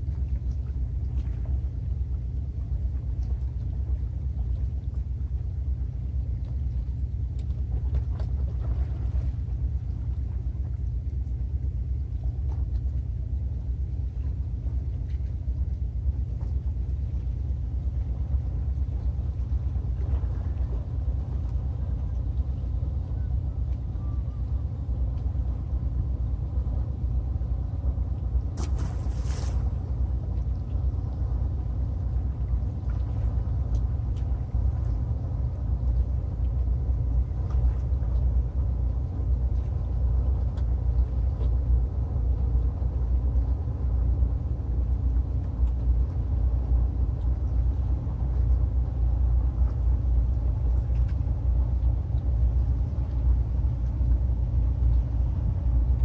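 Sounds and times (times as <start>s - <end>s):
low rumble with flutter: 0.0s - 56.0s.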